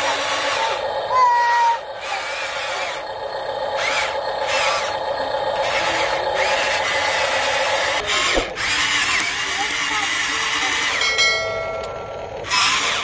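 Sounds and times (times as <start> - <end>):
toy electric motors whining: 0.0 - 13.0.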